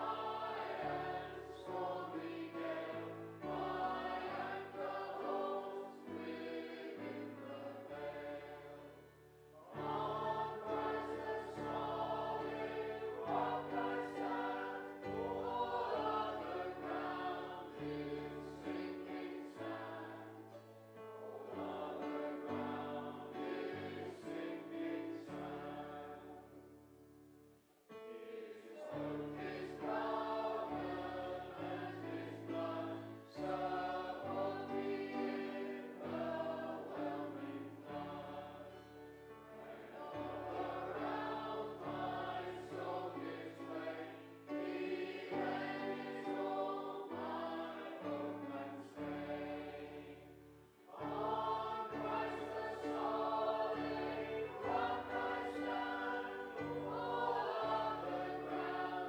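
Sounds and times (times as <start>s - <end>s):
congregation singing a hymn: 0.0s - 27.2s, 27.9s - 59.0s.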